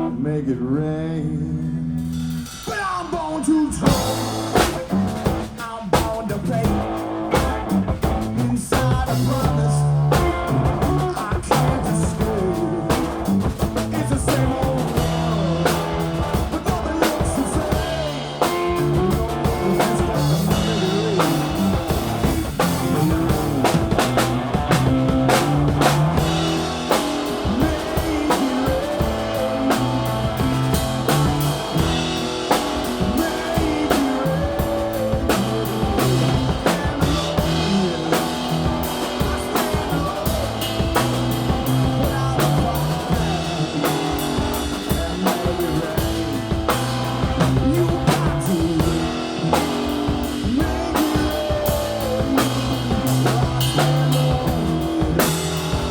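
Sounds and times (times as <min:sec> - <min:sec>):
guitar: 0:00.0 - 0:55.9
live blues-rock band: 0:00.0 - 0:55.9
drum kit beat: 0:02.0 - 0:55.9.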